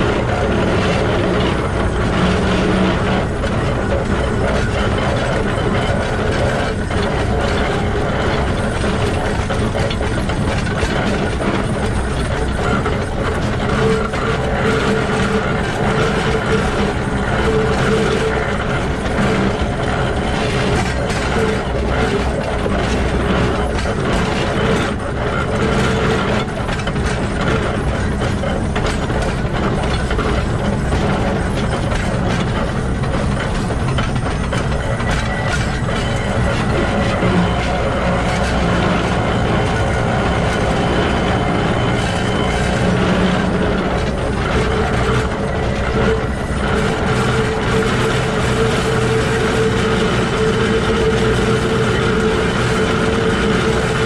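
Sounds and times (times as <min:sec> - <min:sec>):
wheels on rails: 0:00.0 - 0:54.0.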